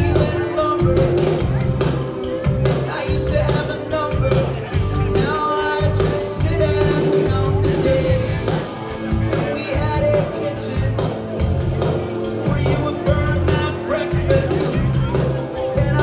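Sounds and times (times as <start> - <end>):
person singing: 0.0 - 11.2, 12.4 - 16.0
live rock band playing: 0.0 - 16.0.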